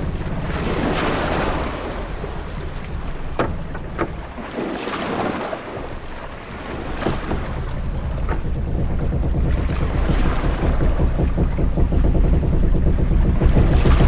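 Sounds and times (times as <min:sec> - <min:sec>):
low rumble: 0:00.0 - 0:04.6, 0:05.8 - 0:14.0
short knocks: 0:00.0 - 0:14.0
waves splashing against hull: 0:00.0 - 0:14.0
wind: 0:00.0 - 0:14.0.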